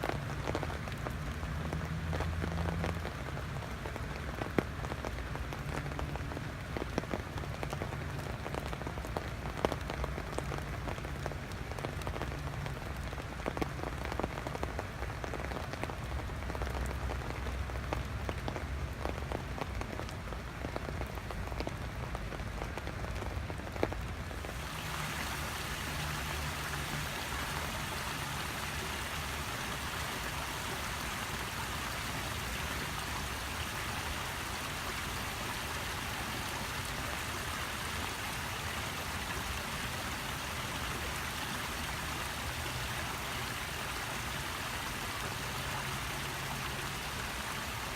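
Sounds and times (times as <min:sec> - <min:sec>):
rain drops hitting: 0:00.0 - 0:47.9
rain hiss: 0:00.0 - 0:47.9.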